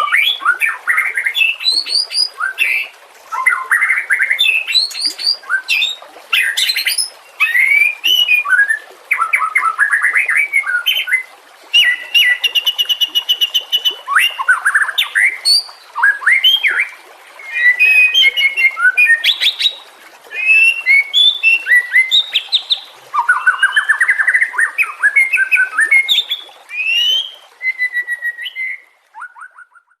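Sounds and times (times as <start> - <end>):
songbird singing whistled phrases: 0.0 - 19.7, 20.4 - 30.0.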